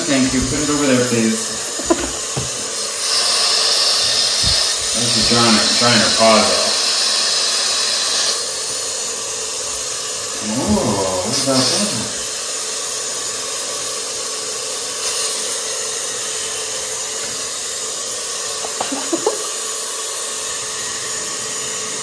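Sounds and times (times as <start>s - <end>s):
hair dryer blowing air: 0.0s - 22.0s
motor whine: 0.0s - 22.0s.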